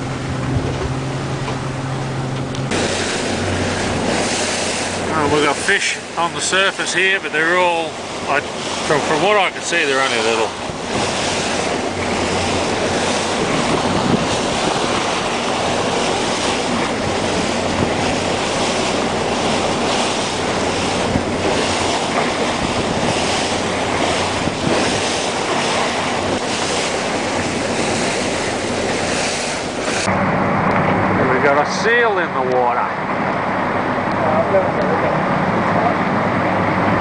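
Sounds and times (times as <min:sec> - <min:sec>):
wind on microphone: 0:00.0 - 0:32.0
low engine hum: 0:00.0 - 0:37.0
water along hull: 0:00.0 - 0:37.0.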